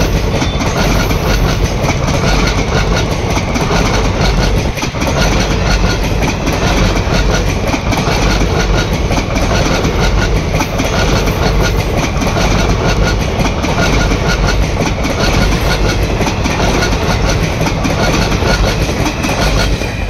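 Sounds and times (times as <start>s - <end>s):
train wheels rumbling on rail: 0.0s - 20.0s
wheels clattering over rail joints: 0.0s - 20.0s.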